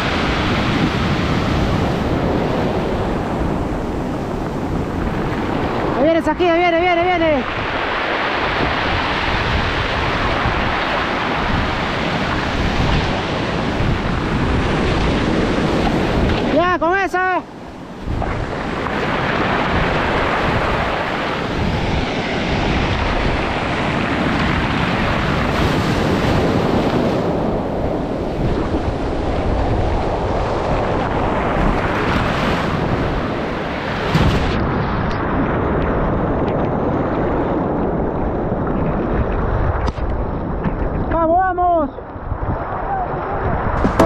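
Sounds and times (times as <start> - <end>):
sea surf: 0.0 - 44.0
wind buffeting microphone: 0.0 - 44.0.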